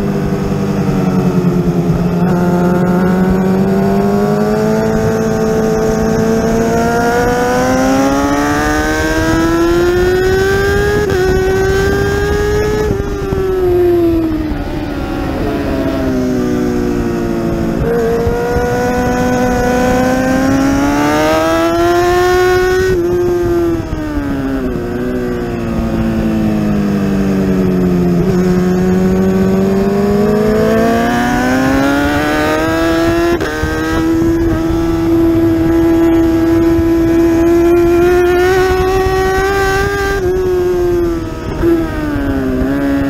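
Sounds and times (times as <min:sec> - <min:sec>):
motorcycle engine at racing pace: 0:00.0 - 0:43.0.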